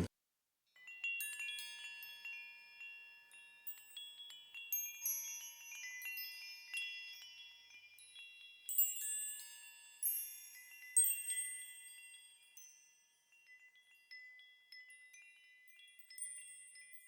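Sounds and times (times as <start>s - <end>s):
wind chimes ringing: 0.8s - 17.0s.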